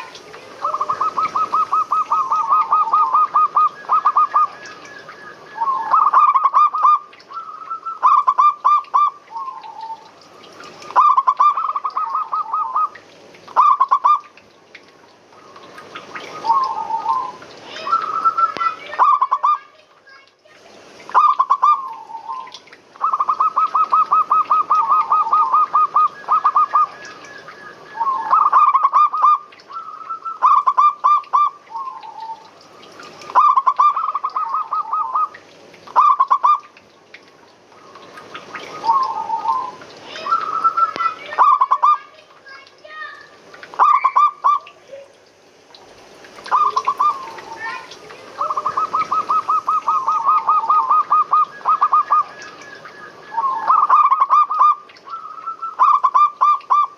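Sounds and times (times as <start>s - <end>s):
doves cooing: 0.0s - 14.3s, 15.3s - 19.6s, 21.1s - 36.7s, 37.7s - 42.0s, 43.7s - 45.2s, 46.4s - 56.9s.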